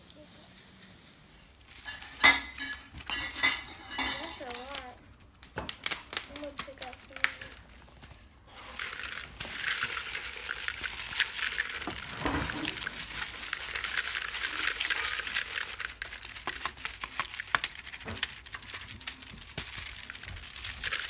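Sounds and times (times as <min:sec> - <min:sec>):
dry gourd skins crackling: 0:01.4 - 0:21.0
seeds clicking into plastic bowl: 0:01.8 - 0:07.8, 0:08.7 - 0:21.0.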